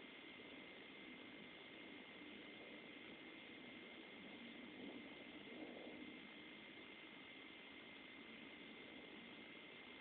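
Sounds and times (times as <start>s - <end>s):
faint hiss: 0.0s - 10.0s
thin steady tone: 0.0s - 10.0s.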